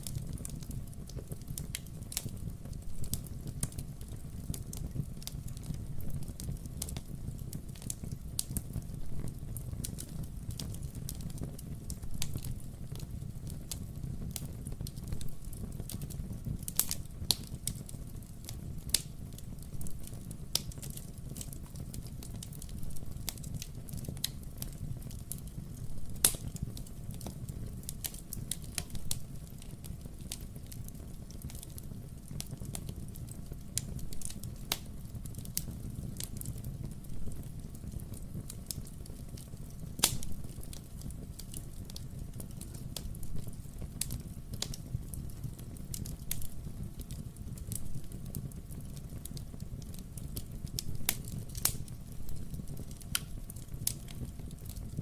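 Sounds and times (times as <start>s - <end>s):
crackles and pops of burning logs: 0.0s - 55.0s
wood fire burning: 0.0s - 55.0s.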